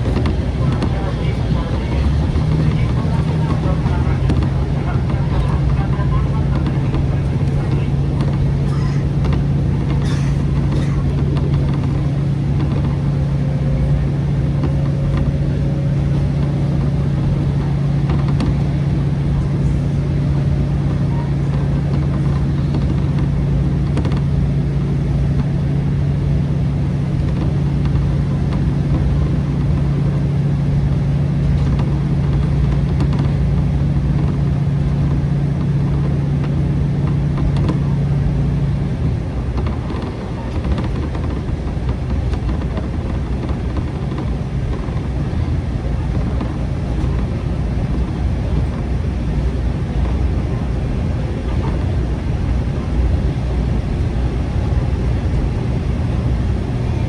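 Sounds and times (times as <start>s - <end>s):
diesel engine drone: 0.0s - 57.0s
train running noise: 0.0s - 57.0s.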